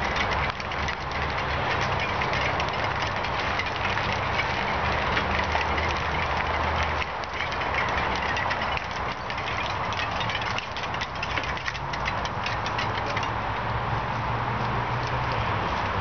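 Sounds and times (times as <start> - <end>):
bicycle rolling on asphalt: 0.0 - 16.0.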